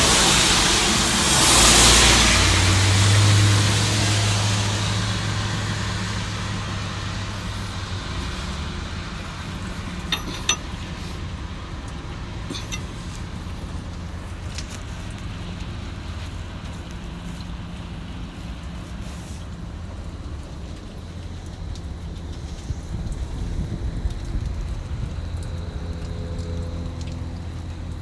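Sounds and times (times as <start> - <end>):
truck diesel engine humming: 0.0 - 24.2.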